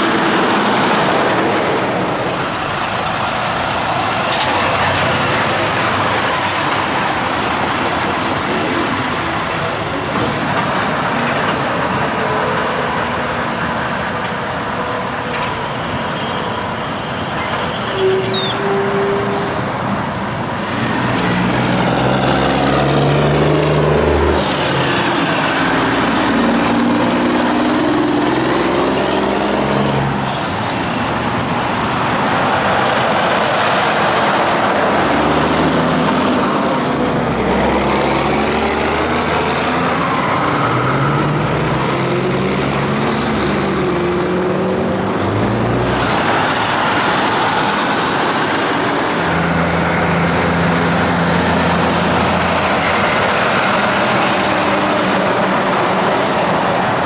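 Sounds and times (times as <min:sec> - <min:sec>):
semi trucks passing: 0:00.0 - 0:57.0
tyre and road noise: 0:00.0 - 0:57.0.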